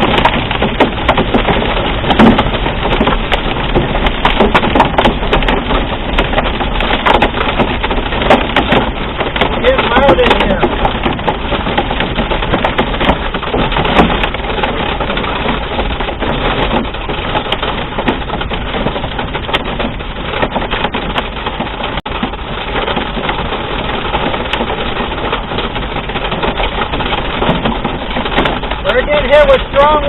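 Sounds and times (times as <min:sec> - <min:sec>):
hail and rain pelting a vehicle: 0:00.0 - 0:30.0.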